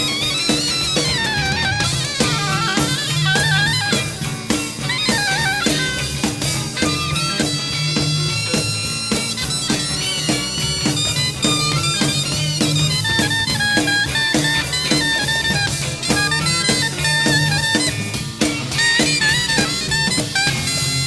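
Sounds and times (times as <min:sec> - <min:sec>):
bass: 0:00.0 - 0:21.0
drum kit beat: 0:00.0 - 0:21.0
high lead line: 0:00.0 - 0:21.0.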